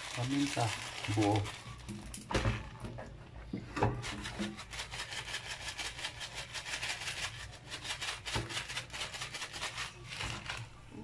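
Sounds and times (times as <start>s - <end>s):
peppercorns pattering: 0.0s - 2.8s, 4.0s - 11.0s
plastic bag crinkling: 0.0s - 2.8s, 4.1s - 11.0s.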